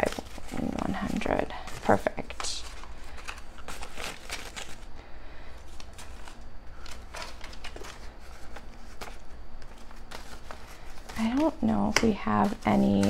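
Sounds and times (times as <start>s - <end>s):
paper banknotes rustling: 0.0s - 13.0s.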